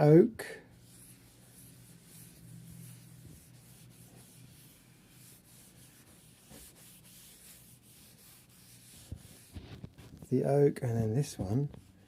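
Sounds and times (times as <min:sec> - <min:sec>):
low steady hum: 0:00.0 - 0:12.0
faint rubbing on wooden board: 0:00.8 - 0:12.0.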